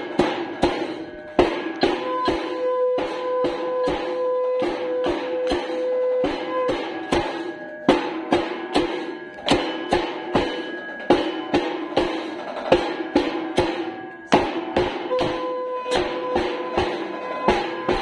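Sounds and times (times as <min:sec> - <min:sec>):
drum beating: 0:00.0 - 0:18.0
temple bells ringing: 0:00.0 - 0:18.0.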